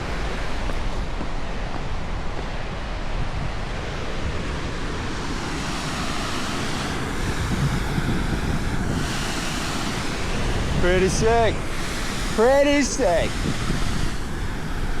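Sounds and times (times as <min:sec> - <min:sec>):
waterfall roaring: 0:00.0 - 0:15.0
wind buffeting microphone: 0:00.0 - 0:15.0.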